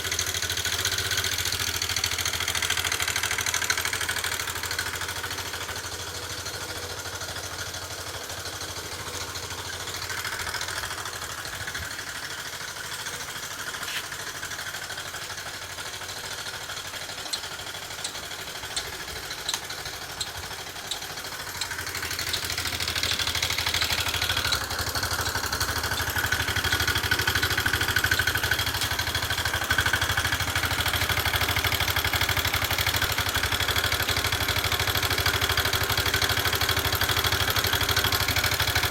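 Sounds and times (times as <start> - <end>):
light engine ticking: 0.0 - 38.9
scooter engine running: 0.0 - 38.9.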